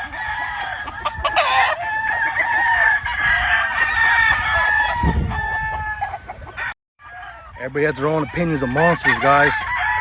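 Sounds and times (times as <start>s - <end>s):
chickens clucking: 0.0s - 10.0s
roosters crowing: 0.0s - 10.0s.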